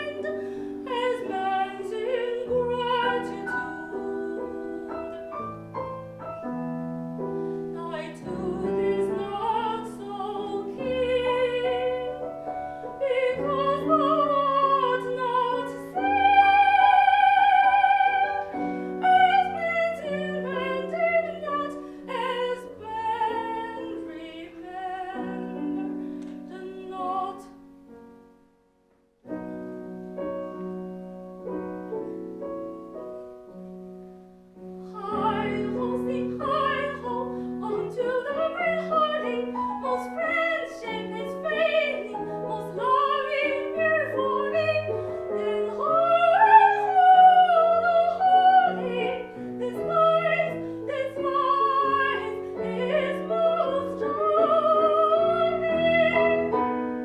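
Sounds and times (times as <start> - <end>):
soprano singing: 0.0 - 28.3, 34.5 - 57.0
piano accompaniment: 0.0 - 57.0.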